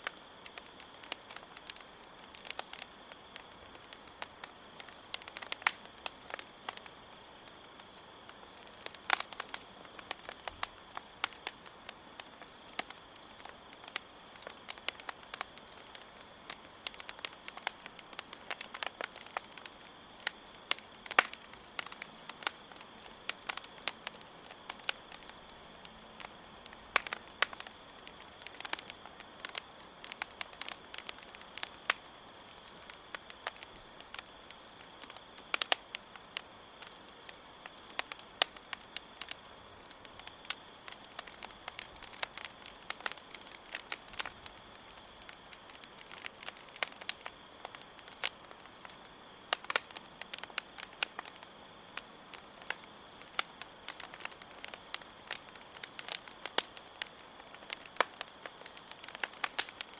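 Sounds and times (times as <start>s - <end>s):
campfire crackling and popping: 0.0s - 59.9s
crickets chirring: 0.0s - 59.9s.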